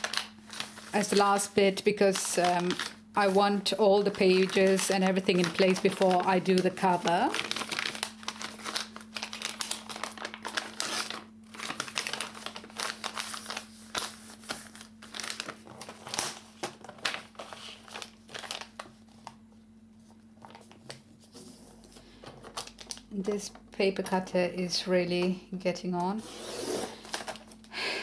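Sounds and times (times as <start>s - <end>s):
paper bags crinkling and rustling: 0.0s - 23.6s, 26.8s - 27.7s.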